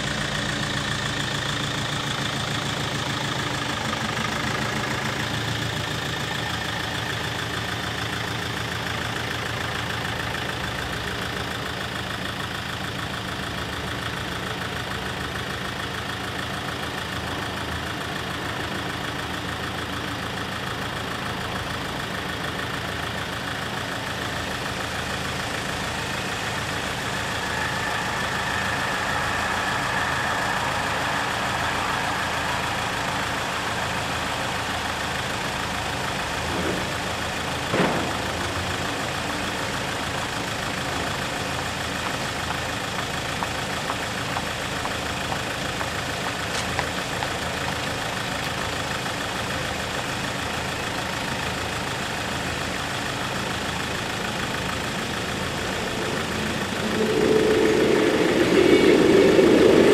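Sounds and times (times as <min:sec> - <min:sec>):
vehicles idling: 0:00.0 - 0:59.9.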